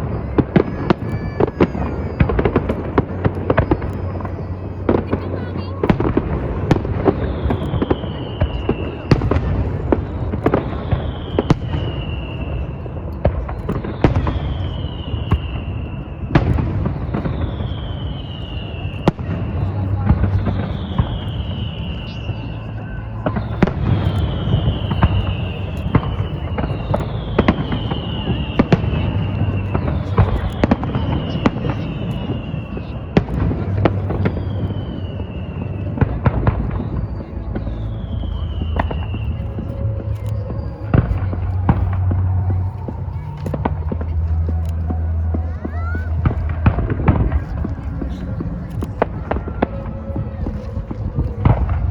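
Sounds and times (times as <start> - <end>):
descending firework whistle: 0.0 - 51.9
fireworks bangs and crackles: 0.0 - 51.9
low rumble: 0.0 - 51.9.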